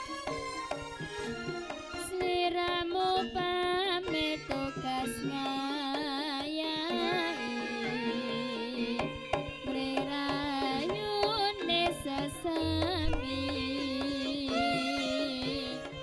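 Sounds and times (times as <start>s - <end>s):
hand-drum strokes: 0.0s - 16.0s.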